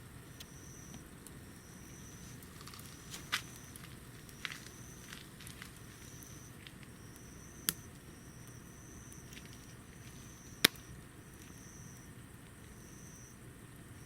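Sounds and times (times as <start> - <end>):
wood stove burning hiss: 0.0 - 14.0
burning wood popping: 0.2 - 14.0.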